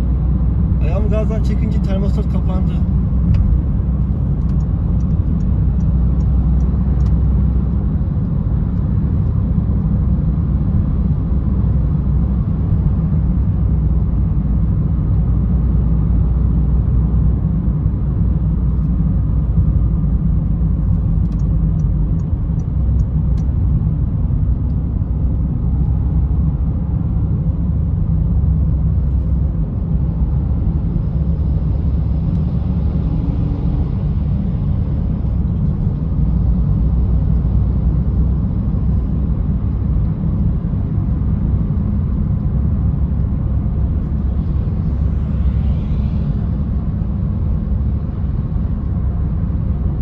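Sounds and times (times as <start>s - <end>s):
car engine running: 0.0s - 50.0s
road and tyre noise: 0.0s - 50.0s.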